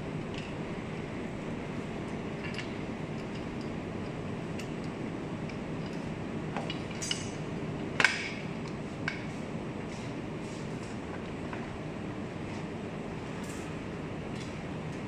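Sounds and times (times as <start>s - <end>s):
low workshop hum: 0.0s - 15.0s.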